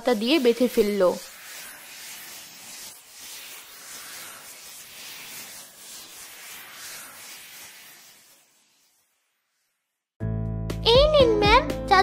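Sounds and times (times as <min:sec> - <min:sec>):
magic vines rustling hiss: 0:00.0 - 0:10.1.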